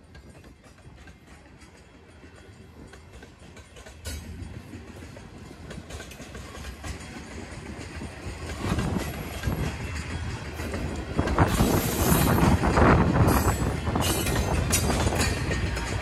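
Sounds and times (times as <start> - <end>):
diesel locomotive engines: 0.0 - 16.0
train wheels clattering on rails: 0.0 - 16.0.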